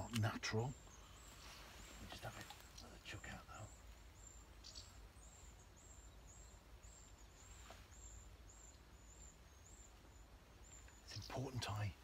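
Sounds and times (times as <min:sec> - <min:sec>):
faint outdoor ambience: 0:00.0 - 0:12.0
faint high-pitched chirp: 0:00.3 - 0:12.0.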